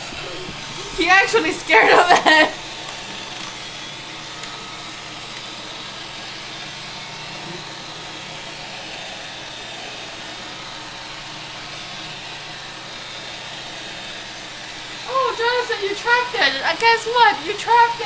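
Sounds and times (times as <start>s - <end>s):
robot vacuum whirring: 0.0s - 18.0s.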